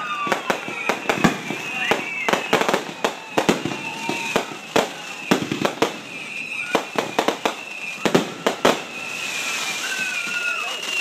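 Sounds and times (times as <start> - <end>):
faint high whistle: 0.0 - 11.0
fireworks bangs and cracks: 0.0 - 11.0.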